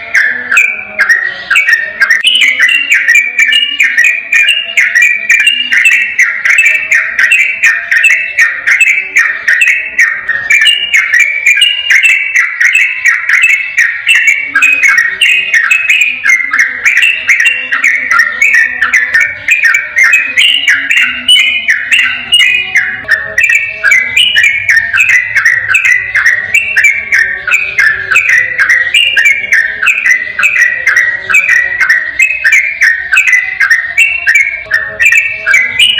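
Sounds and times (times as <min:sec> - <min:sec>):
sharp high ticking: 0:00.0 - 0:35.9.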